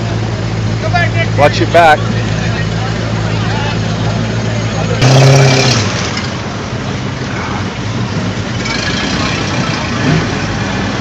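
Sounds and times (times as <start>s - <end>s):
car engines passing: 0.0s - 11.0s.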